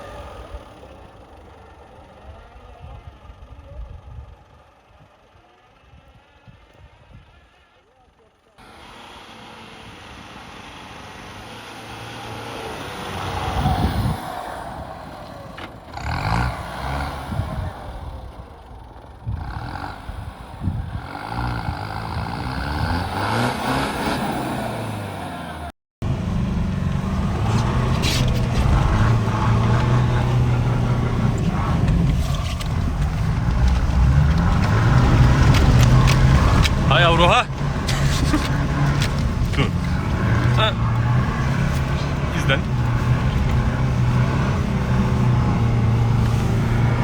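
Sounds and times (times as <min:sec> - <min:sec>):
pickup engine revving: 0:08.6 - 0:47.0.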